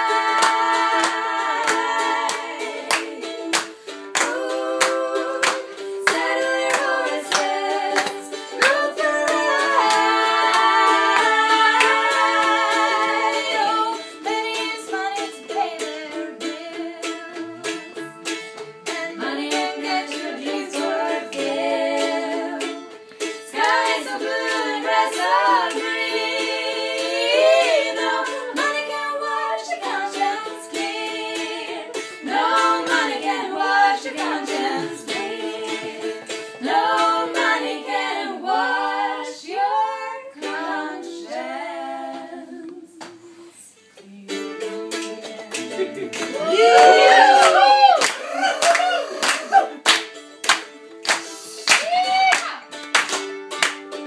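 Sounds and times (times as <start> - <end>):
women singing in harmony: 0.0 - 18.2, 18.9 - 45.6, 46.4 - 49.8
acoustic mandolin: 0.0 - 54.0.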